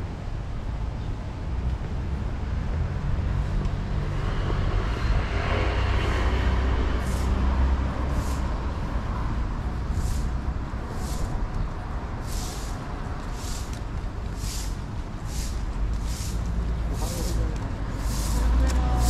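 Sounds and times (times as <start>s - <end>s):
street traffic rumble: 0.0s - 19.0s
vehicle passing: 1.4s - 19.0s.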